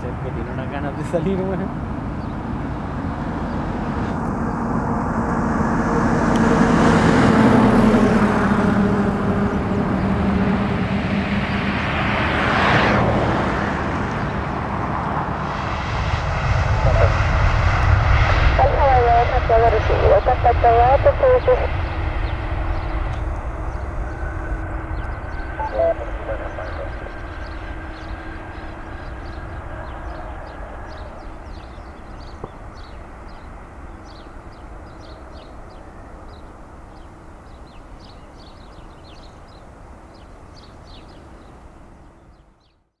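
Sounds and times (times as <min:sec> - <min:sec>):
jet engines rumbling at takeoff: 0:00.0 - 0:42.6.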